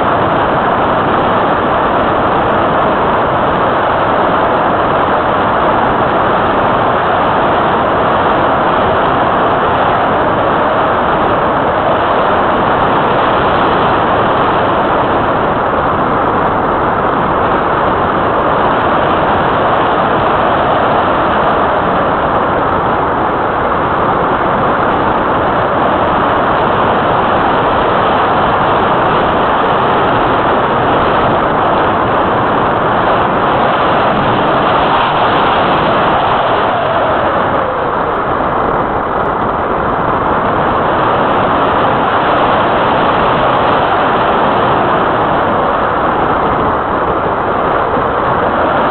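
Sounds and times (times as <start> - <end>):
wind buffeting camera: 0.0 - 48.9.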